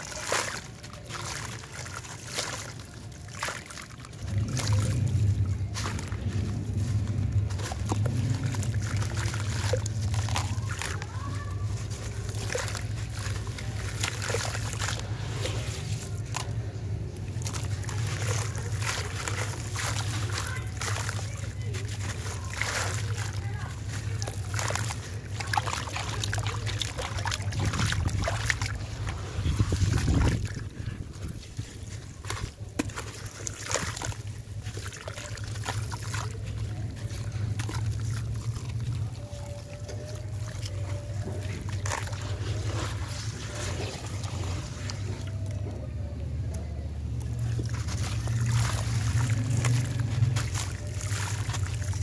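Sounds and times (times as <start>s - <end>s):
splats and drips: 0.0s - 52.0s
wet sand sloshing in water: 0.0s - 52.0s.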